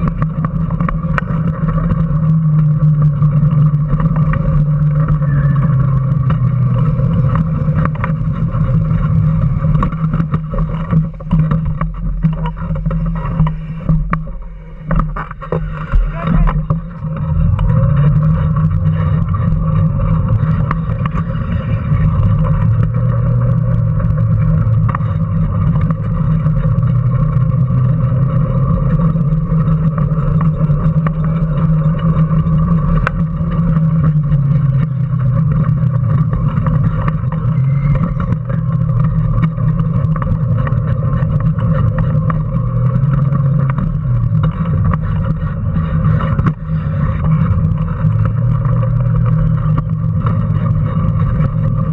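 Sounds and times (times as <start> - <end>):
toy car rattling: 0.0 - 14.2, 15.0 - 51.9.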